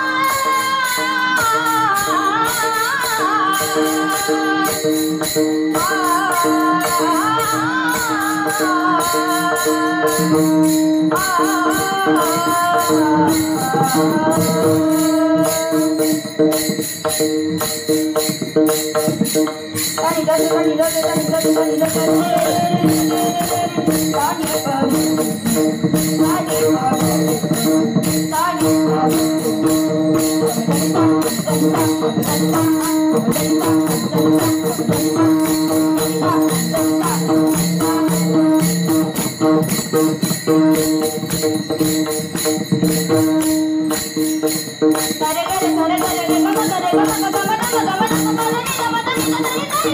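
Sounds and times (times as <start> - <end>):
hand cymbals clashing: 0.0 - 49.9.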